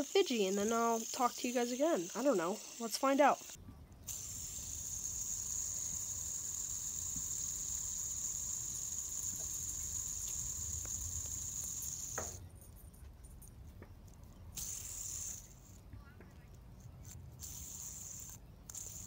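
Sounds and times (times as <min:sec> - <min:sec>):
fidget spinner whirring: 0:00.0 - 0:12.8, 0:13.8 - 0:19.0.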